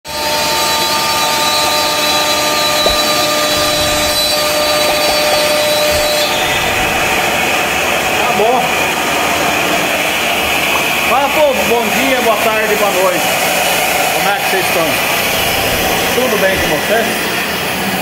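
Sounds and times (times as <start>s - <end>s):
dust extractor rushing noise: 0.1s - 18.0s
router spindle whine: 0.1s - 18.0s.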